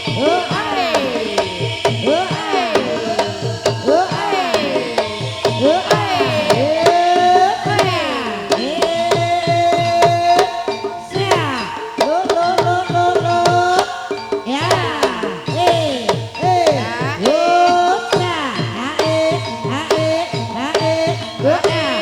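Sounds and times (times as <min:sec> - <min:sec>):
sharp clicking beat: 0:00.0 - 0:22.0.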